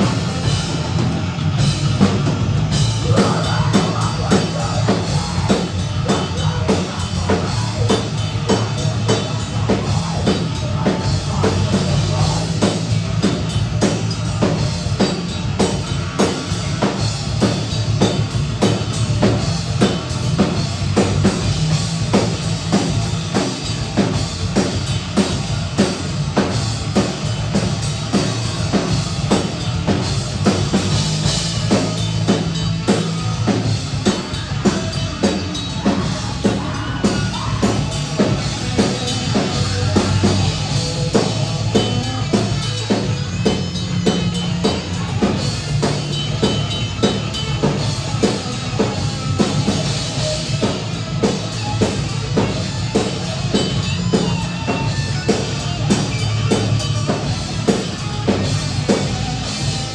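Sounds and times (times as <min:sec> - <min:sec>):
drum kit fast beat: 0:00.0 - 0:59.9
rock band playing thrash metal: 0:00.0 - 0:59.9.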